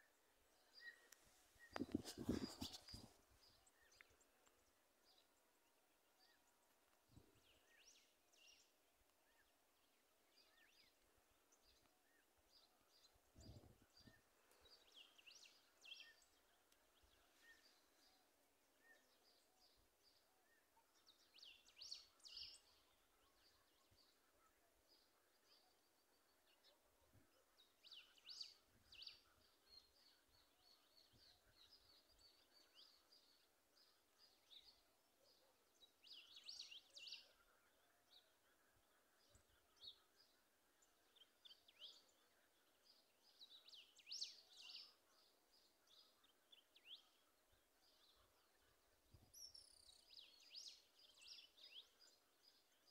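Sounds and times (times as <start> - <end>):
faint bird chirps: 0.0 - 9.6, 10.3 - 52.9.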